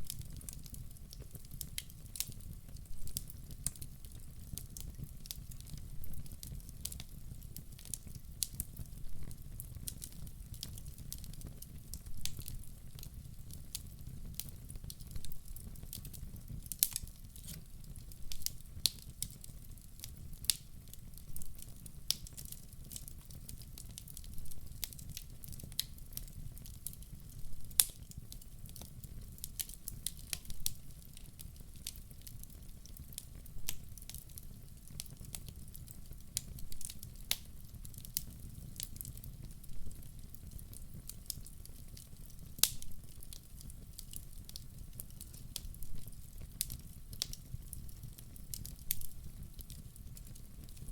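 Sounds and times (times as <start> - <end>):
fire crackling and popping: 0.0 - 50.9
low fire rumble: 0.0 - 50.9.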